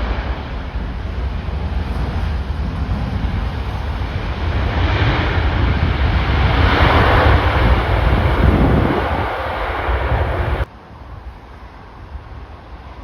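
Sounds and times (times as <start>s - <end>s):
loud rushing noise: 0.0s - 10.7s
wind buffeting microphone: 0.0s - 10.7s.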